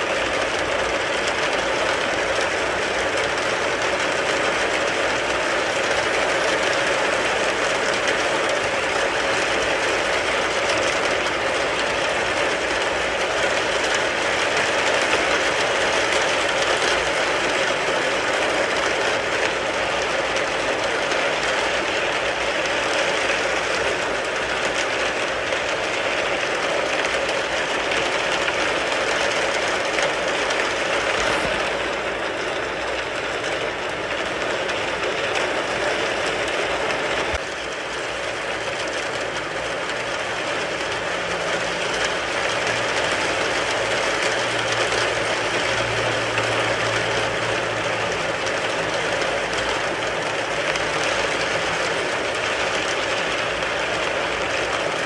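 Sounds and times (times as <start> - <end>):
rain on a car roof: 0.0 - 55.0.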